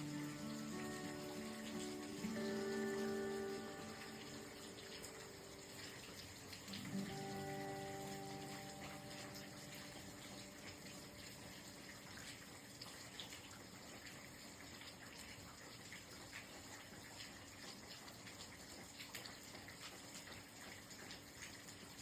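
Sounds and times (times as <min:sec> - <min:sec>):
faint steady rain: 0:00.0 - 0:22.0
raindrops ticking: 0:00.0 - 0:22.0.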